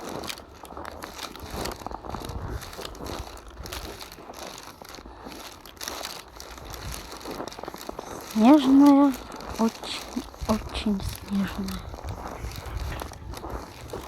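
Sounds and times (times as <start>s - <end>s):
snow squeaking and crunching: 0.0s - 14.0s.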